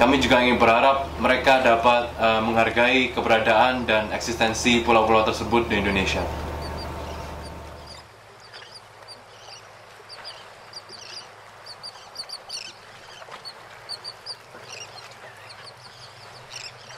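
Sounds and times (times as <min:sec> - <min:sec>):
birds chirping: 0:00.0 - 0:16.9.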